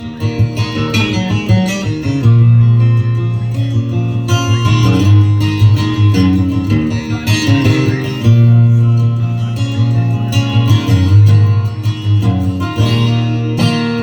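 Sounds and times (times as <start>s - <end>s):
country guitars and bass: 0.0s - 14.0s.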